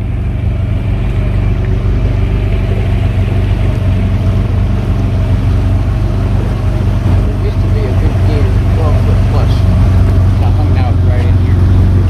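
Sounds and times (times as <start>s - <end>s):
outboard engine hum: 0.0s - 12.0s
water and air noise: 0.0s - 12.0s.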